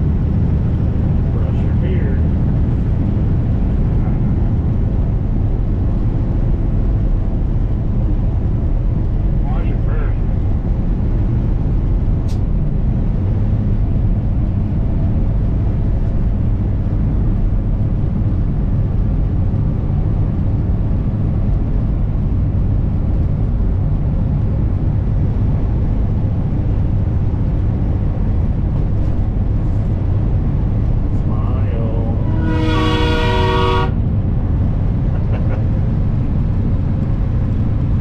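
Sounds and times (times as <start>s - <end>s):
road and wind noise: 0.0s - 38.0s
truck diesel engine droning: 0.0s - 38.0s.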